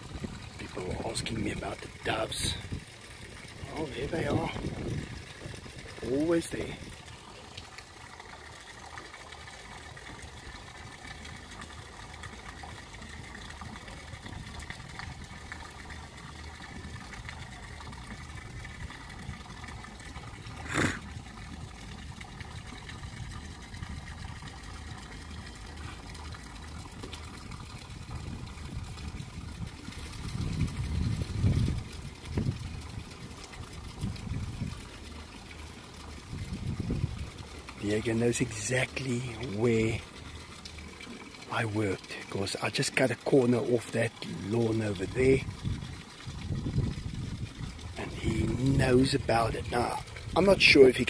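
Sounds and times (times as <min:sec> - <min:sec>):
water running: 0:00.0 - 0:51.0.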